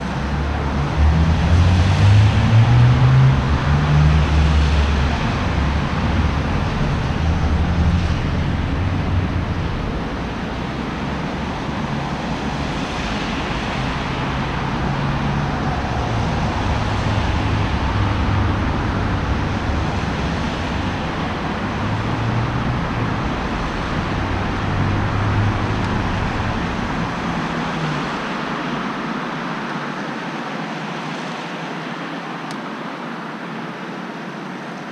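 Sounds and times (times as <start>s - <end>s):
cars passing: 0.0s - 34.9s.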